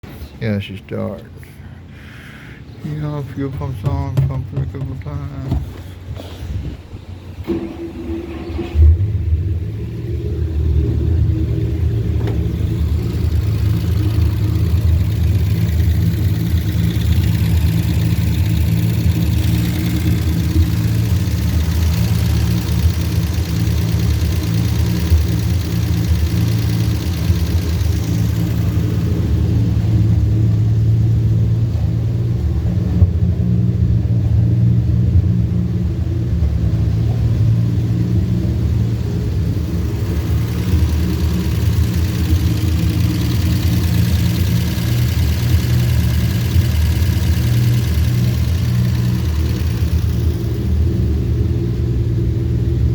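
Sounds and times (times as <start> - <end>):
car engine idling: 0.0 - 52.9
light higher whir: 7.4 - 52.9.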